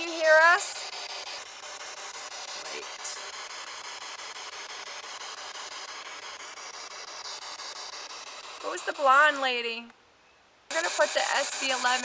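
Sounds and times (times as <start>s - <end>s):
radio static sweeping: 0.0s - 9.8s, 10.7s - 12.0s
faint radio tones: 0.0s - 9.9s, 10.7s - 12.0s.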